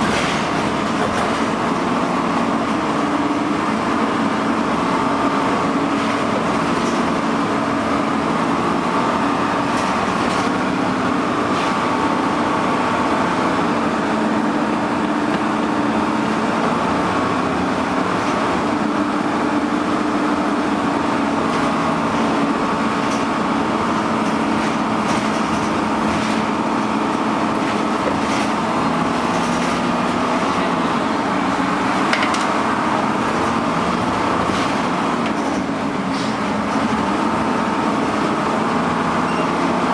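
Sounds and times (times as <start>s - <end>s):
bus engine: 0.0s - 39.9s
engine cooling fan hum: 0.0s - 39.9s.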